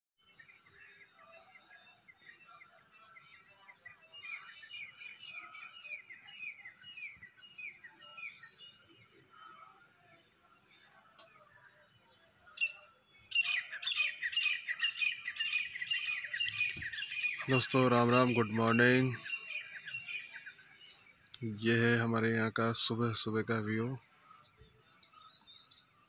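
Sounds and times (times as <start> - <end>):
dense chatter of many birds: 0.2 - 26.0
songbirds chirping: 0.2 - 26.0.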